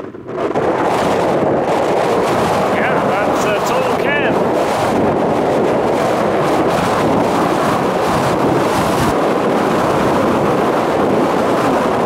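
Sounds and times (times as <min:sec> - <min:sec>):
strong wind on microphone: 0:00.0 - 0:12.0.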